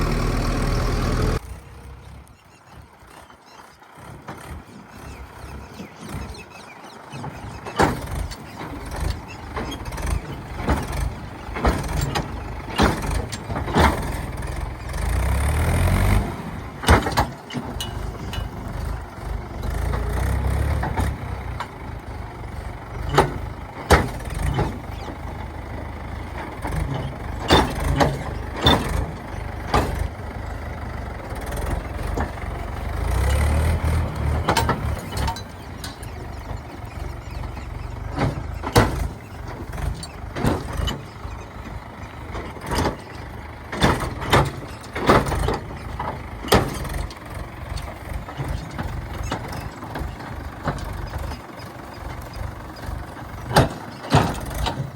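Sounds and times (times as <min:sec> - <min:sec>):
heavy diesel machinery rumbling: 0:00.0 - 0:54.9
sharp knocks and clanks: 0:07.1 - 0:16.2, 0:16.8 - 0:25.4, 0:26.2 - 0:54.9.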